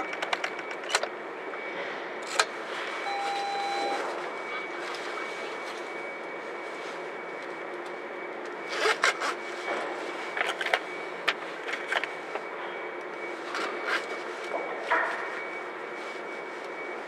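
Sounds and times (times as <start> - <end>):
ferry engine drone: 0.0 - 17.0
thin high whine: 2.5 - 17.0.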